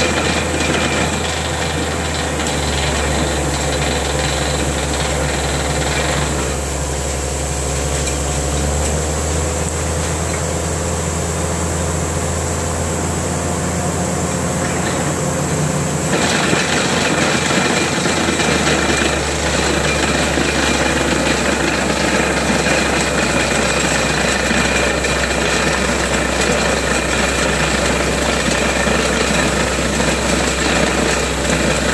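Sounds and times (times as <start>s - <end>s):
drilling rig engine hum: 0.0s - 31.9s.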